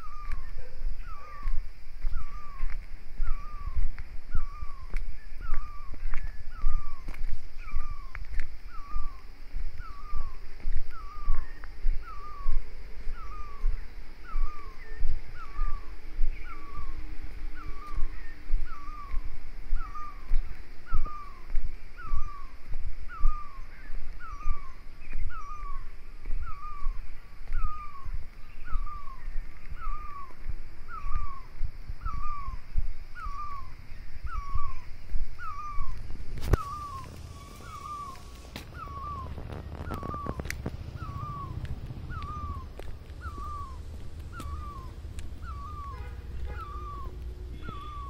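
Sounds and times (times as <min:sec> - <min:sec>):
bird calling: 0:00.0 - 0:48.0
low steady rumble: 0:00.0 - 0:48.0.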